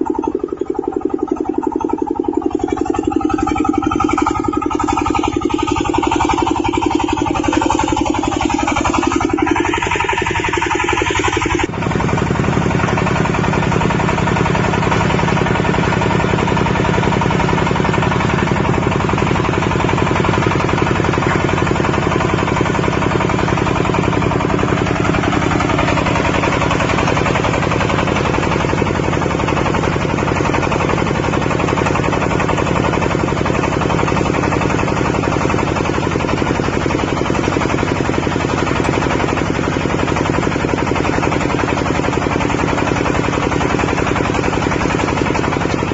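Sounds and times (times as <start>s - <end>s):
diesel engine chugging: 0.0s - 45.9s.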